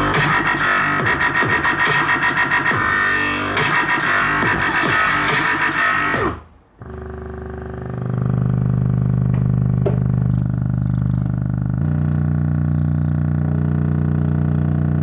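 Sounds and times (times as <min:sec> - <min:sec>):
subwoofer bass test tone: 0:00.0 - 0:05.4, 0:06.8 - 0:15.0.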